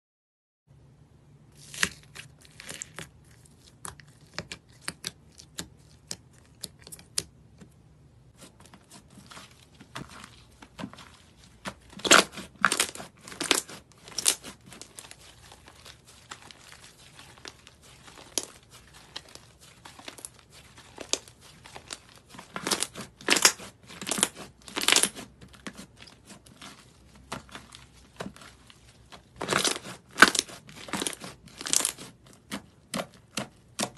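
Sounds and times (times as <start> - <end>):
slime squelching and crackling: 1.5 - 7.6, 8.3 - 33.9.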